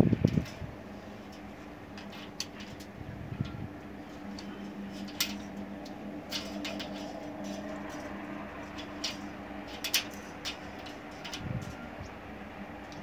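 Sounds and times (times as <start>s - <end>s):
faint steady hum: 0.0s - 13.0s
pliers clicking and scraping metal: 1.2s - 12.2s.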